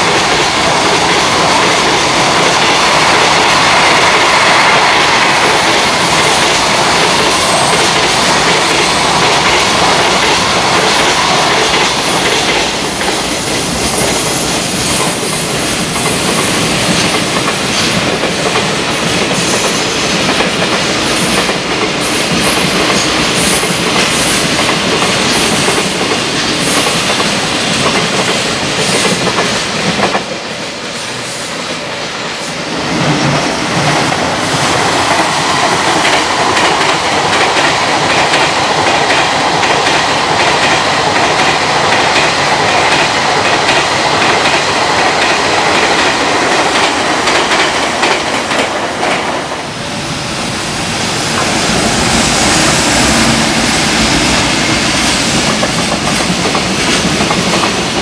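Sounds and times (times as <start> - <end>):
freight train wheels clattering: 0.0 - 30.6, 32.9 - 49.6, 51.2 - 58.0.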